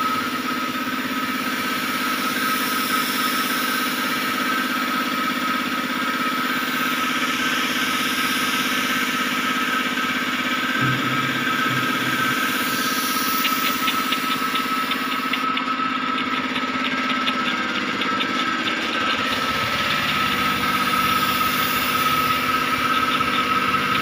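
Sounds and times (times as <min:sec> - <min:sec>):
air compressor running: 0:00.0 - 0:24.0
spray gun spraying: 0:00.0 - 0:24.0.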